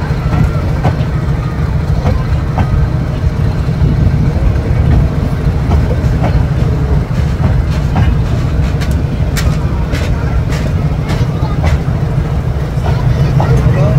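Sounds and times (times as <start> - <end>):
train coaches rumbling past: 0.0 - 13.9.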